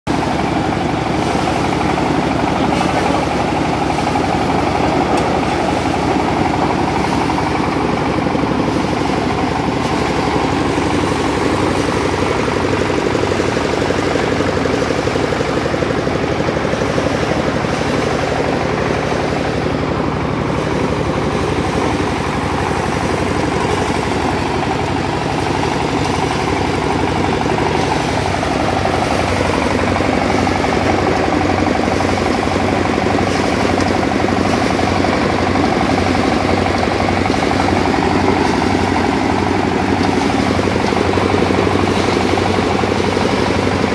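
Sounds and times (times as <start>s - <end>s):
drum thresher droning: 0.1s - 43.9s.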